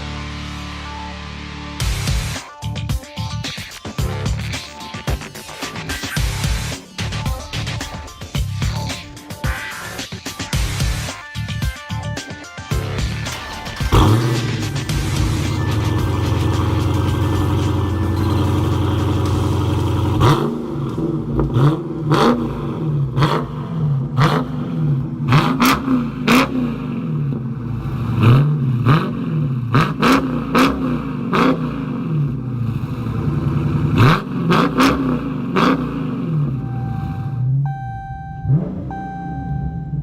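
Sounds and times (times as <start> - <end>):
car engine revving: 5.2 - 11.1, 12.7 - 40.0.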